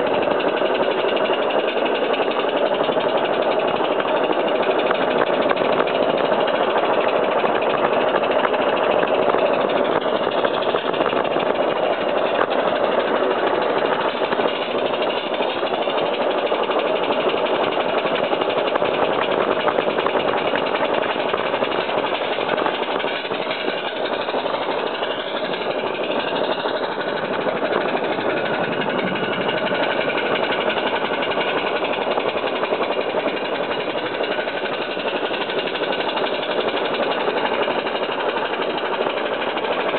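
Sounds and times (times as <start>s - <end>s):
steam locomotive exhaust rushing: 0.0s - 39.9s
wagons running on track: 0.0s - 39.9s.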